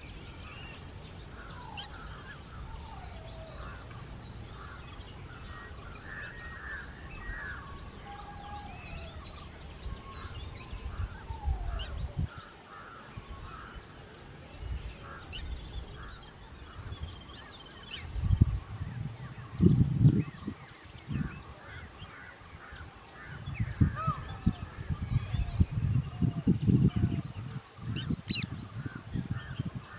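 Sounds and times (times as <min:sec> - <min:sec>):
birds calling and chirping: 0:00.0 - 0:29.9
wind rumble on microphone: 0:00.0 - 0:29.9.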